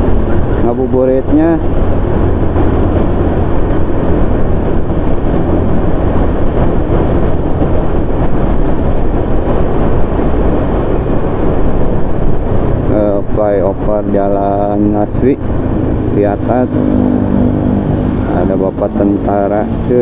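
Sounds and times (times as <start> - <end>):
vehicle engine noise: 0.0 - 20.0
wind and road noise: 0.0 - 20.0.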